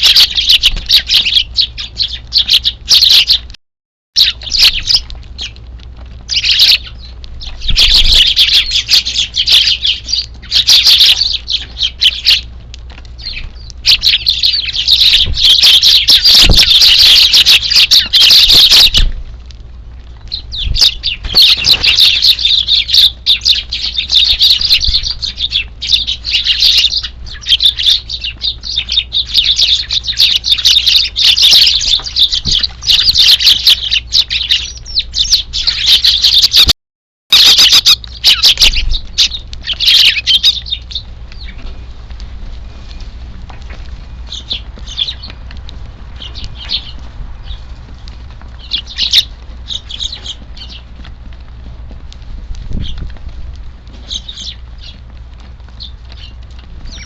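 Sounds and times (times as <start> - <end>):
sparrows chirping: 0.0 - 3.5, 4.2 - 5.6, 6.2 - 19.2, 20.2 - 36.7, 37.3 - 51.1, 52.7 - 53.2, 53.9 - 57.0.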